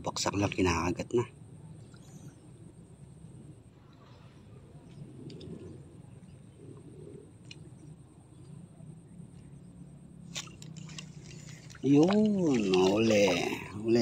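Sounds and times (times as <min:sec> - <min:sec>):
soft low bird calls: 0:01.2 - 0:14.0.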